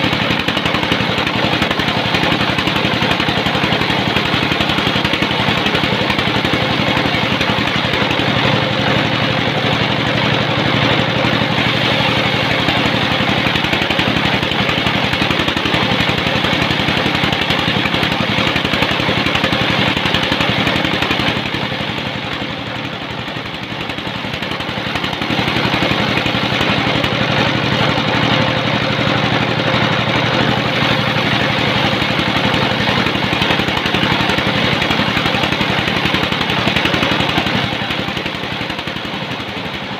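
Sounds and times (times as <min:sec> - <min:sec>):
sawmill sawing a log: 0:00.0 - 0:39.9.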